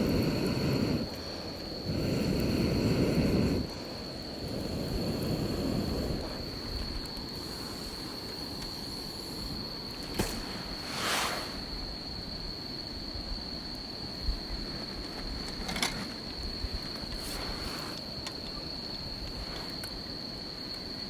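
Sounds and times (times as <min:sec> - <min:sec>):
fire popping: 0:00.0 - 0:12.3, 0:14.0 - 0:20.1
campfire crackling: 0:00.0 - 0:21.0
insect trill: 0:00.0 - 0:21.0.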